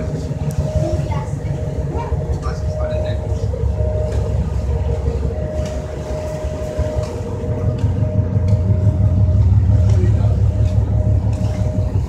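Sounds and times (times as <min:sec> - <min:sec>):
constant hum: 0:00.0 - 0:12.0
ferry engines rumbling: 0:00.0 - 0:12.0.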